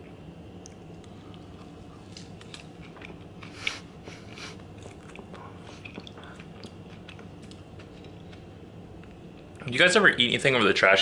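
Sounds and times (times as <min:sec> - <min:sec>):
person chewing: 0:00.0 - 0:09.4.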